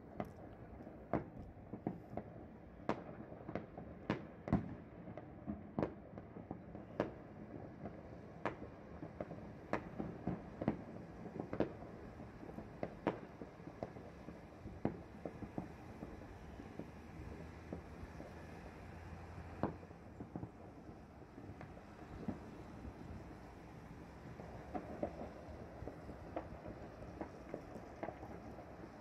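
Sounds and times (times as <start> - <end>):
fireworks and firecrackers banging: 0.0 - 29.0.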